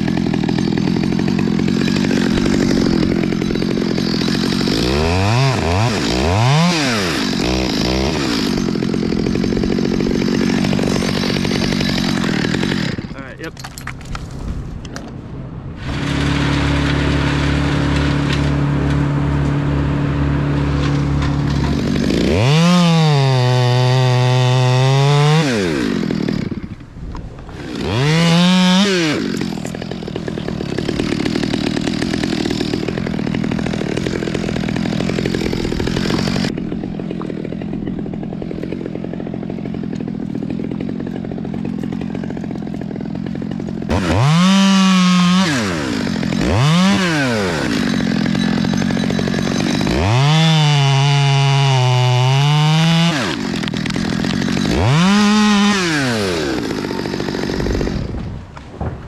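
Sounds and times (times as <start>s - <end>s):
chainsaw cutting limbs: 0.0s - 15.2s, 15.8s - 59.0s.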